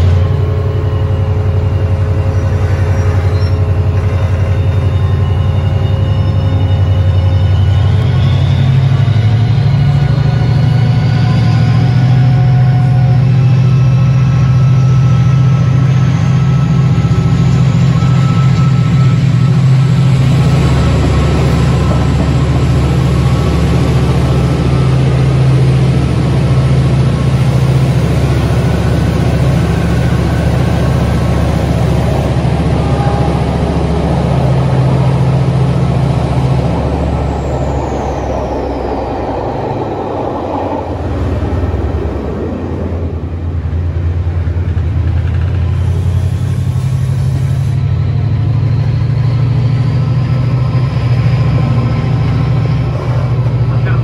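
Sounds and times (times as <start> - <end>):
diesel locomotive engine: 0.0 - 54.0
high whine: 0.0 - 54.0.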